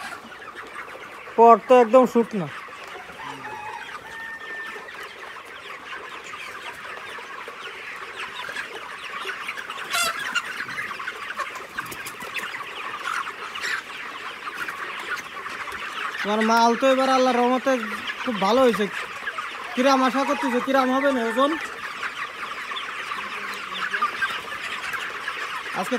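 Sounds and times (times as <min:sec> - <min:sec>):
chickens cheeping and clucking: 0:00.0 - 0:25.9.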